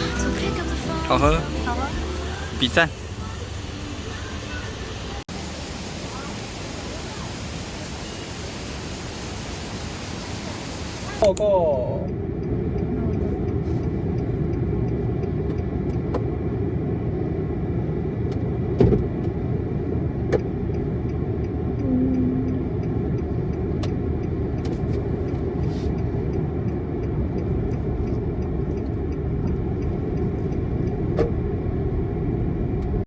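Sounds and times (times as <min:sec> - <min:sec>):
car driving rumble: 0:00.0 - 0:05.3, 0:11.1 - 0:33.0.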